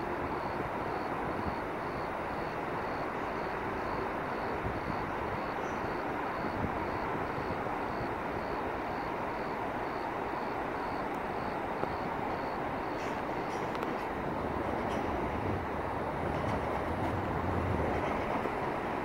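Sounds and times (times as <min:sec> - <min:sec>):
trains roaring: 0:00.0 - 0:19.0.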